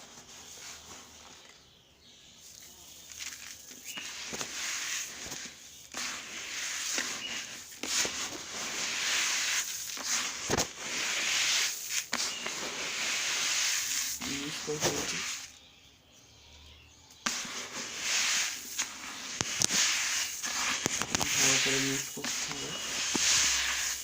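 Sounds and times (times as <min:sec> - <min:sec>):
bird seed stirred and poured: 0:02.3 - 0:15.6, 0:17.2 - 0:24.0.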